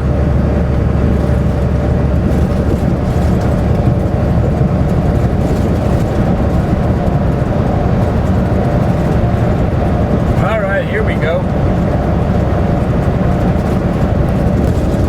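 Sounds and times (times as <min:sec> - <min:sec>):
diesel engine rumble: 0:00.0 - 0:15.0
road noise: 0:00.0 - 0:15.0.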